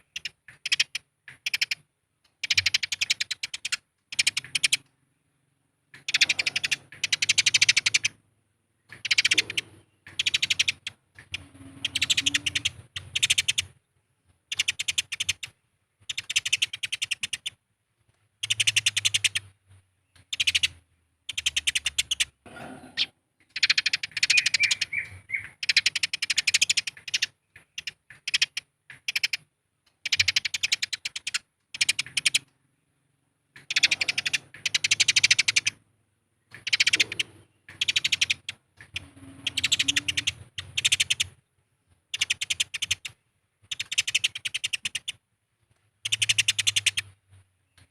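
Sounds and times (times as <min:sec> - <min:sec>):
sparrows chattering: 0:00.0 - 0:17.6, 0:18.4 - 0:35.8, 0:36.4 - 0:41.4, 0:42.1 - 0:45.2, 0:46.0 - 0:47.9.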